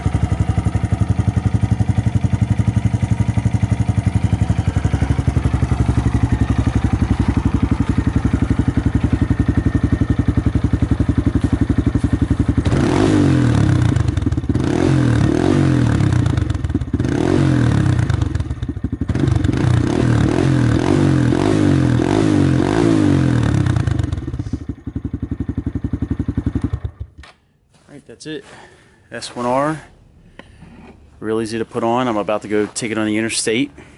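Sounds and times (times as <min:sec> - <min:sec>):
motorcycle engine idling: 0:00.0 - 0:27.2
engine throttle blips: 0:00.0 - 0:27.4.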